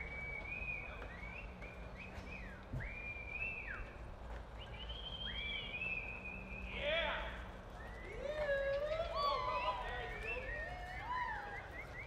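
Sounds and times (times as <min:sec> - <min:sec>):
spectators whistling: 0:00.0 - 0:12.0.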